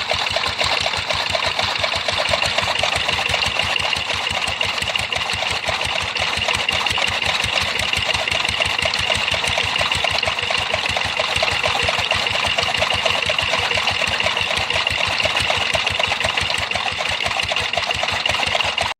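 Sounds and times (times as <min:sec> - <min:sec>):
small engine knocking steadily: 0:00.0 - 0:18.9.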